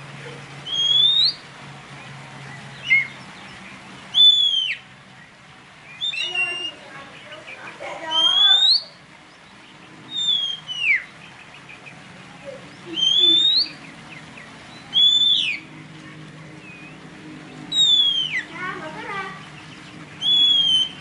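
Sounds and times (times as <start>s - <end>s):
whistled bird calls: 0.2s - 21.0s.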